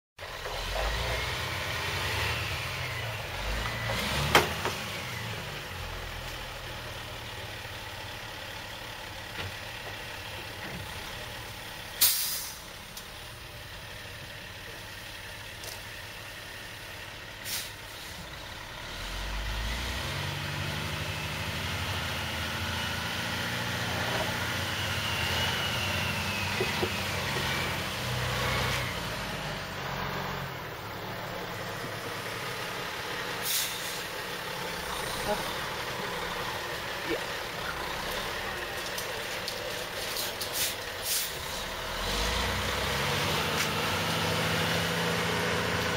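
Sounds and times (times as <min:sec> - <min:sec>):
truck diesel engine running: 0:00.2 - 0:45.9.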